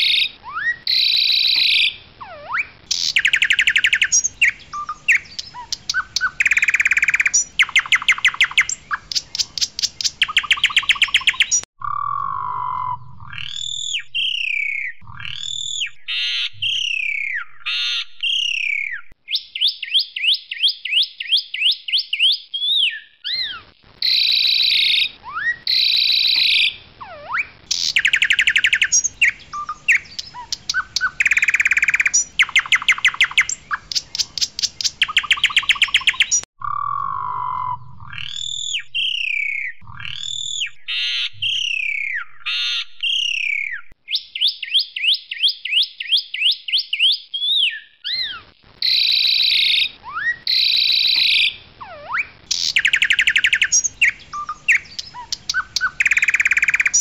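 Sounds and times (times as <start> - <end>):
myna singing clicks and whistles: 0.0 - 57.0.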